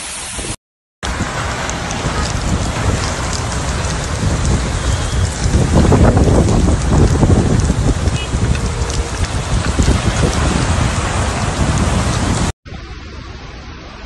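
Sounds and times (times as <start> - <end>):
heavy rain pelting down: 0.0 - 14.0.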